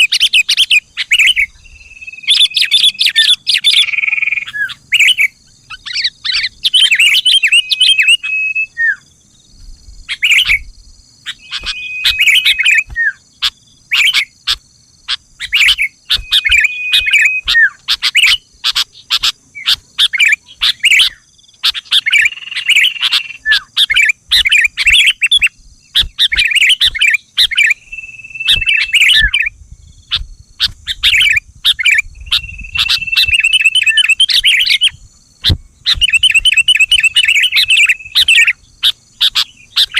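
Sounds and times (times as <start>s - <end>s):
bulbul song: 0.0s - 9.4s, 10.1s - 39.9s.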